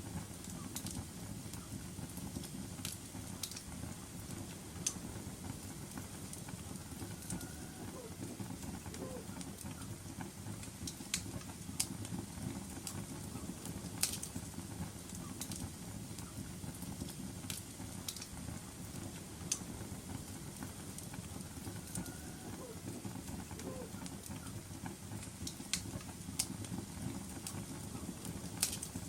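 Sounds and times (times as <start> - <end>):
fire crackling and popping: 0.0 - 29.0
fire flames rumbling: 0.0 - 29.0.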